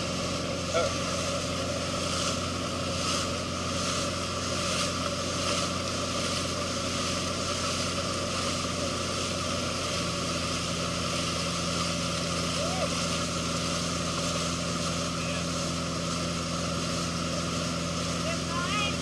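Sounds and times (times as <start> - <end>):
boat engine running: 0.0 - 19.0
rush of churning wake: 0.0 - 19.0.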